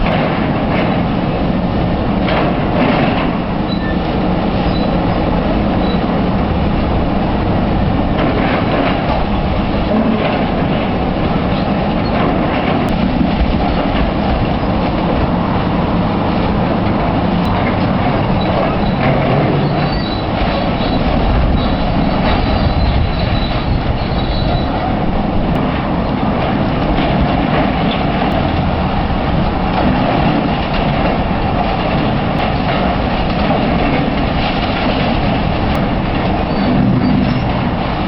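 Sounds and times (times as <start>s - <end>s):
excavator engine rumble: 0.0s - 38.0s.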